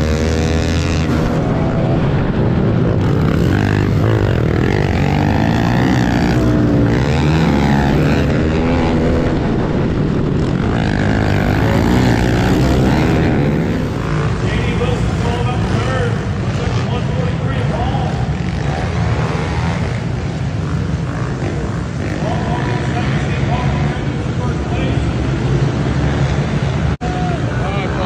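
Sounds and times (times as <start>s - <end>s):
other pit bike engines: 0.0s - 28.0s
pit bike engine revving: 0.0s - 28.0s.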